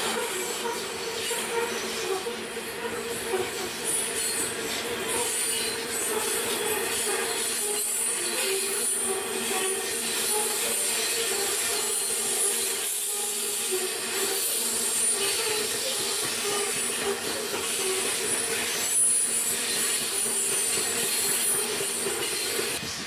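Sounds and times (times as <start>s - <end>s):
high-pitched wheel squeal: 0.0s - 22.7s
distant train rolling: 0.0s - 23.0s.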